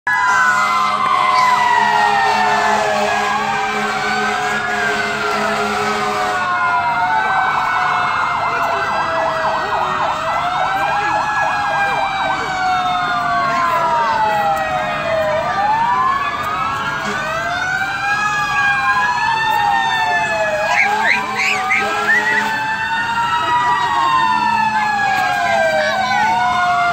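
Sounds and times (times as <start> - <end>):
fire truck sirens wailing: 0.0 - 26.9
siren yelping: 0.1 - 26.9.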